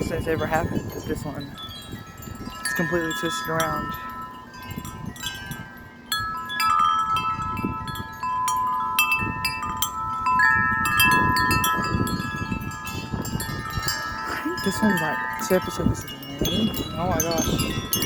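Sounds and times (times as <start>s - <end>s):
low rumble of wind: 0.0s - 18.0s
wind chimes ringing: 0.0s - 18.0s.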